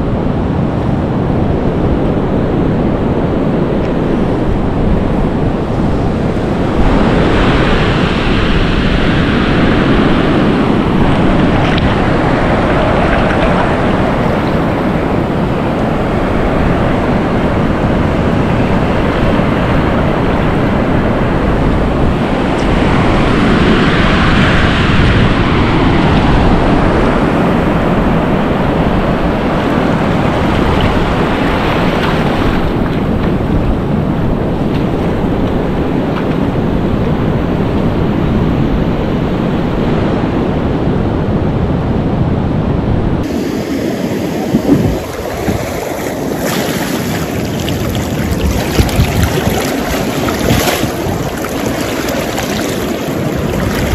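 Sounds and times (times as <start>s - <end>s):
surf washing over sand: 0.0s - 53.9s
wind rumbling on microphone: 0.0s - 53.9s.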